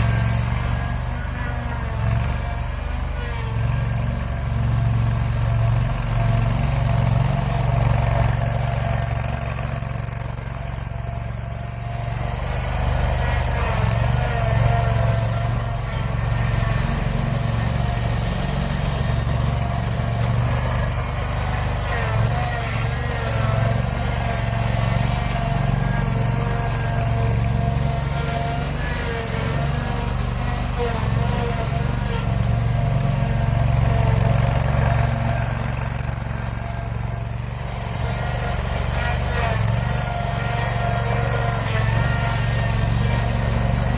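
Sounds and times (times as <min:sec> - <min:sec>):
mower engine running: 0:00.0 - 0:43.9.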